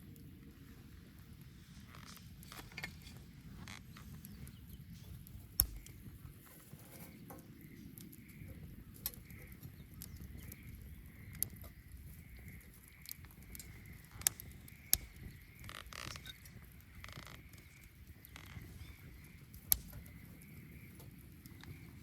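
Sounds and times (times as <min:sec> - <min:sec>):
burning wood crackling and popping: 0:00.0 - 0:22.0.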